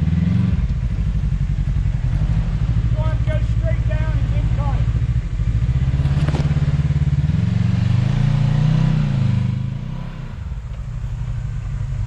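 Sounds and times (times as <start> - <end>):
utility vehicle engine revving: 0.0 - 12.0.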